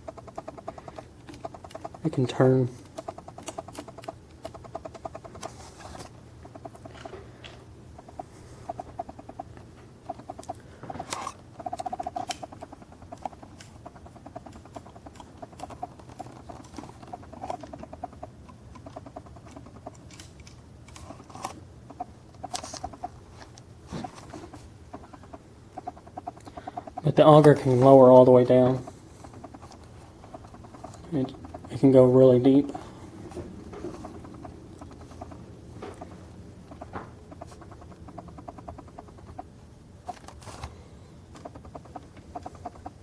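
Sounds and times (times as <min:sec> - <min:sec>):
rapid clicking of model parts: 0:00.0 - 0:43.0.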